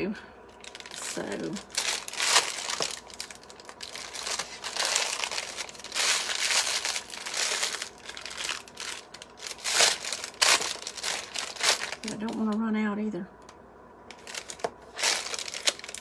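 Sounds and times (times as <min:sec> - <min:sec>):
plastic piping bag crinkling: 0:00.5 - 0:12.6, 0:14.1 - 0:16.0.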